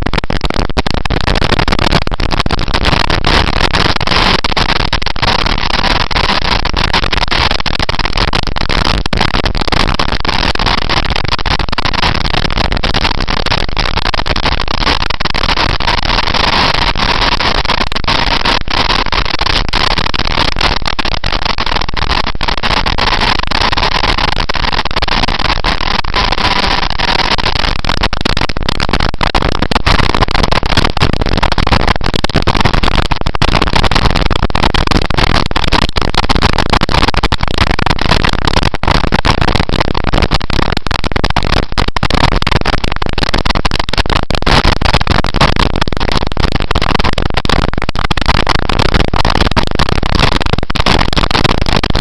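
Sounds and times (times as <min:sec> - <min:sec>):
wind rush over microphone: 0:00.0 - 0:52.0.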